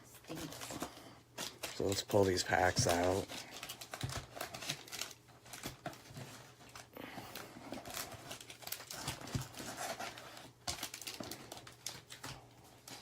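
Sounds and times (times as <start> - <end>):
foil packs rustling: 0.0 - 13.0.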